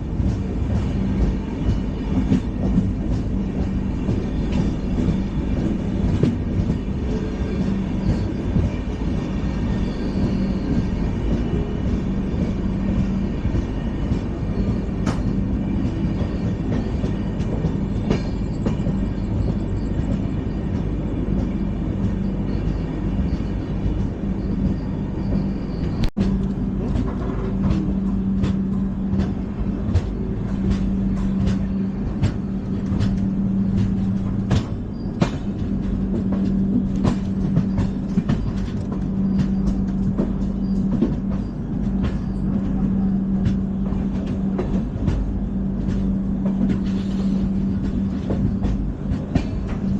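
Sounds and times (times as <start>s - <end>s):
train coaches rumbling: 0.0s - 49.9s
wheels clicking over rails: 0.0s - 49.9s.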